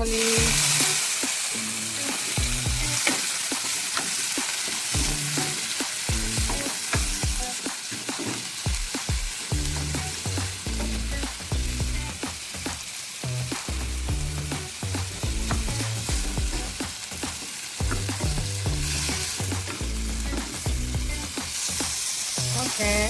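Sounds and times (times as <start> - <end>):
vegetables sizzling in a frying pan: 0.0 - 23.0.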